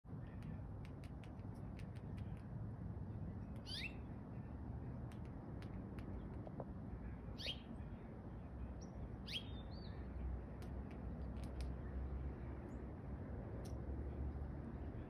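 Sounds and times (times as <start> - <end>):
small birds chirping: 0.1 - 13.0
steady low rumble: 0.1 - 15.0.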